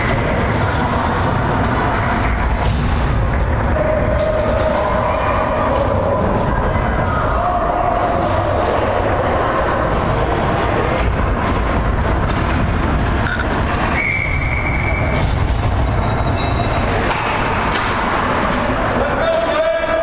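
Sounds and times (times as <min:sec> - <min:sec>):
low rumble and hiss: 0:00.0 - 0:20.0.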